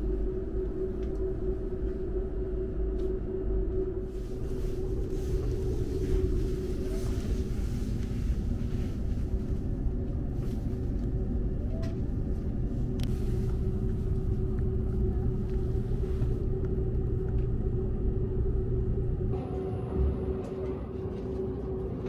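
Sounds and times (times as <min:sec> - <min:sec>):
steady hum: 0:00.0 - 0:22.0
train cabin rumble: 0:00.0 - 0:22.0.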